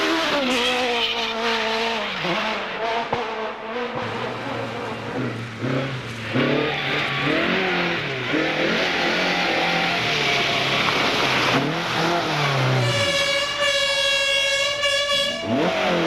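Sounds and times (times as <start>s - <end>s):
car engine revving hard: 0.0s - 13.6s, 15.0s - 16.0s
road and tyre noise: 0.0s - 16.0s.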